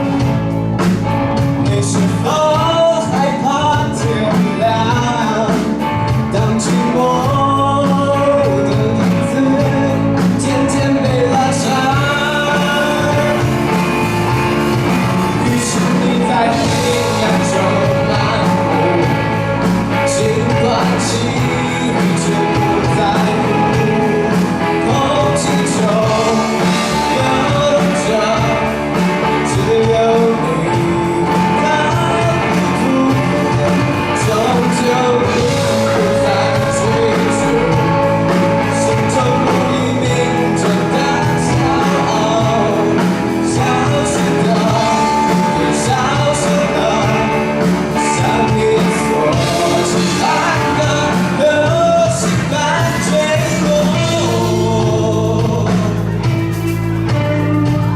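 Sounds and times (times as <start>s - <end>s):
electric guitar: 0.0s - 57.9s
person singing: 0.0s - 57.9s
rock band playing live: 0.0s - 57.9s.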